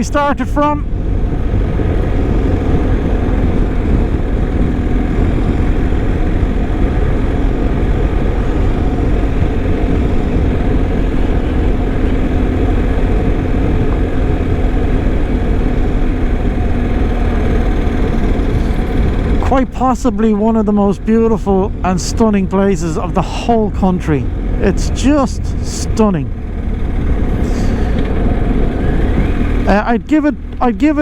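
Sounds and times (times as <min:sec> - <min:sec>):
motorcycle engine hum: 0:00.0 - 0:31.0
road and wind noise: 0:00.0 - 0:31.0.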